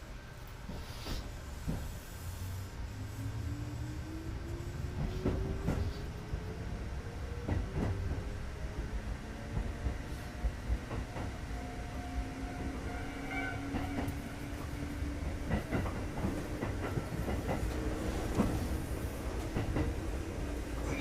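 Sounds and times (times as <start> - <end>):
train rumble from inside: 0.0 - 21.0.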